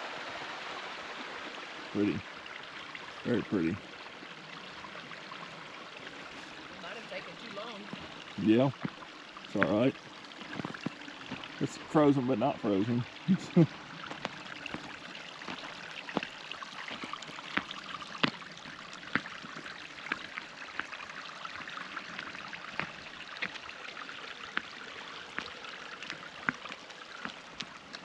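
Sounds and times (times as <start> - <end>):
waterfall running: 0.0 - 28.0.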